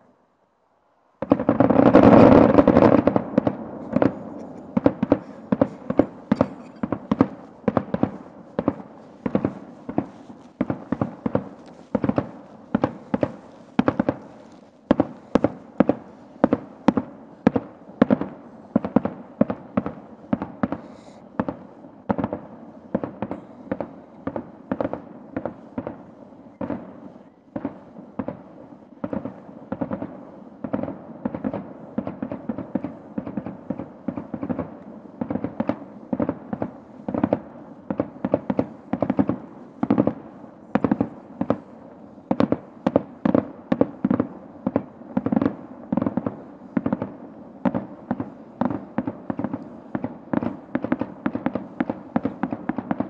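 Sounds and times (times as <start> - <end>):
fireworks bangs and pops: 1.2 - 53.0.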